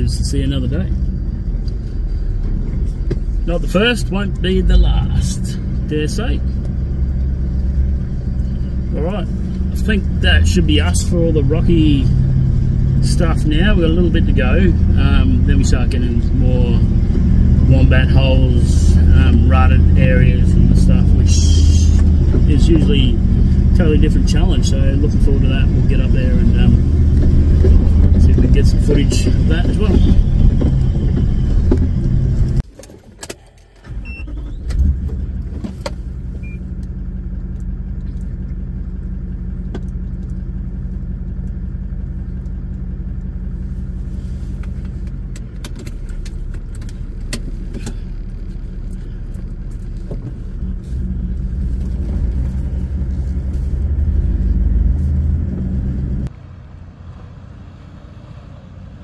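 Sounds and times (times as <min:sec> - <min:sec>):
car engine drone from inside: 0:00.0 - 0:59.0.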